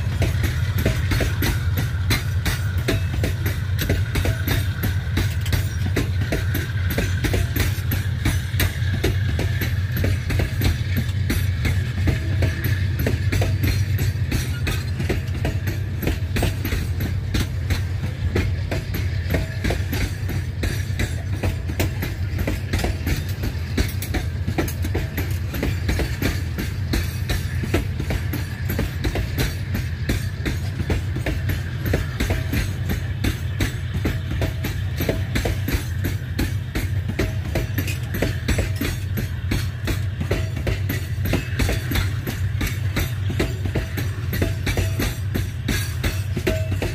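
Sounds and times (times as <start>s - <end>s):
freight train rumbling past: 0.0s - 46.9s
steel wheels clattering on rails: 0.0s - 46.9s.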